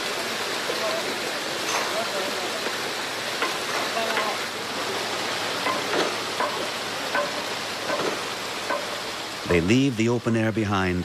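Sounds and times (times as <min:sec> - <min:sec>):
steady hissing rush of water: 0:00.0 - 0:11.0.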